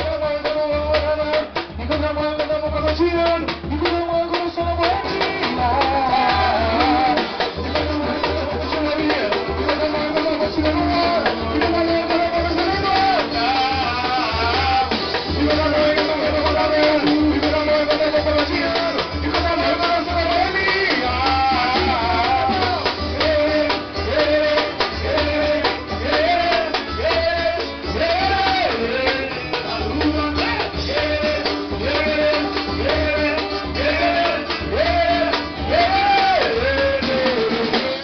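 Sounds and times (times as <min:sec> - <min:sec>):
busy samba percussion: 0:00.0 - 0:38.0
person singing: 0:00.0 - 0:38.0.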